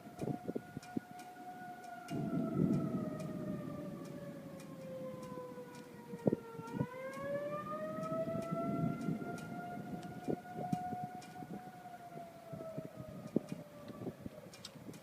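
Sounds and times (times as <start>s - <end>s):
tornado warning siren wailing: 0.0s - 15.0s
low rumbling: 2.1s - 14.2s.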